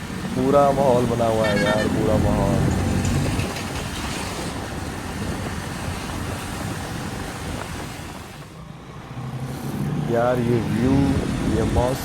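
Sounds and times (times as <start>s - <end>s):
road noise: 0.0s - 12.0s
wind rushing over microphone: 1.9s - 12.0s.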